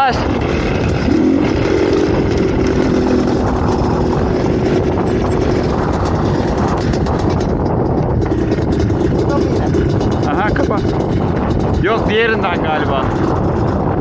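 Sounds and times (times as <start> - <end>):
dirt bike engine idling: 0.0 - 14.0
rough rumbling noise: 0.0 - 14.0.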